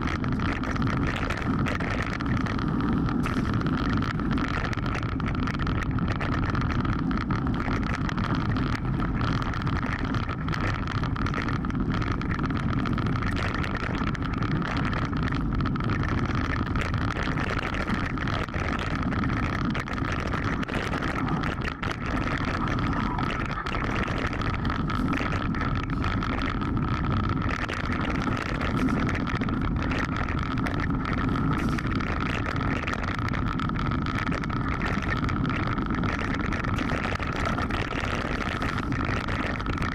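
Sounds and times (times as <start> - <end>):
bike rattling: 0.0 - 39.9
steady high hum: 0.0 - 39.9
tyres rolling over stones: 0.0 - 39.9
wind on microphone: 0.0 - 39.9.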